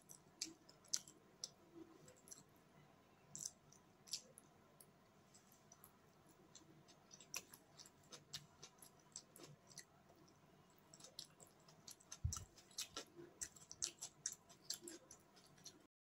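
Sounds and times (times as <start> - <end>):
person chewing noodles: 0.0 - 2.5, 3.3 - 4.5, 5.4 - 15.9.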